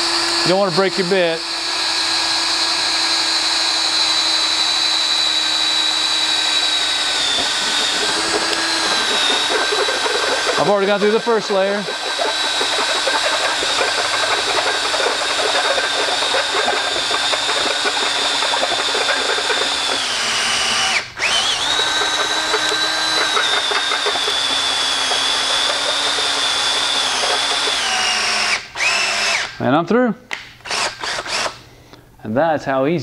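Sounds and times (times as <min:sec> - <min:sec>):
drill grinding through metal: 0:00.0 - 0:29.6, 0:30.6 - 0:31.6.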